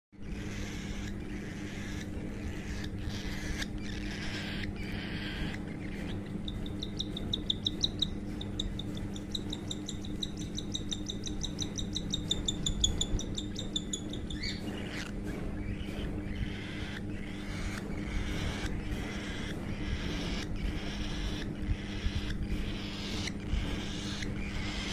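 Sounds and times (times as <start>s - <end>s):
steady low hum: 0.1s - 24.9s
cockatiel chick chirping: 0.3s - 24.9s.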